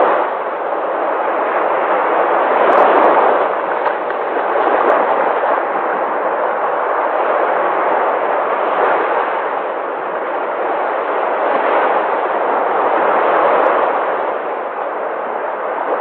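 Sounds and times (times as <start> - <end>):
sea waves breaking on shore: 0.0 - 16.0.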